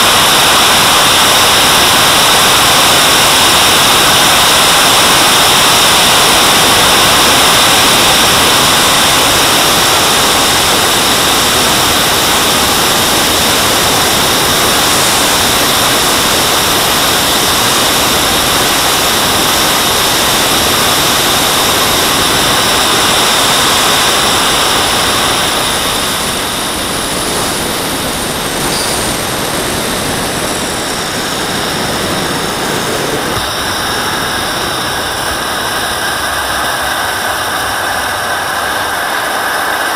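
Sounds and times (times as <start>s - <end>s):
jet turbine whining: 0.0s - 39.9s
rushing air: 0.0s - 39.9s.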